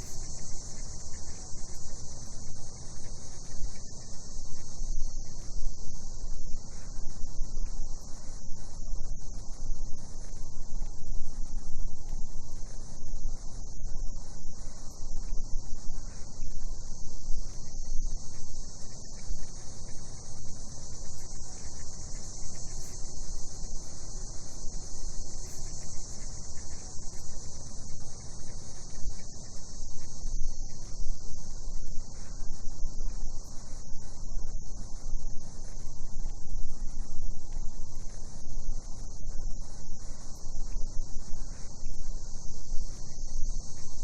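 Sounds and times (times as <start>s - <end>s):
cicadas chorus: 0.0s - 44.0s
constant low noise: 0.0s - 44.0s.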